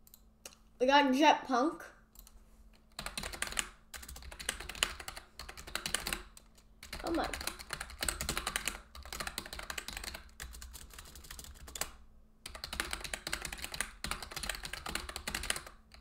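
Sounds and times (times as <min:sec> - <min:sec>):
rapid typing on keyboard: 0:02.2 - 0:16.0.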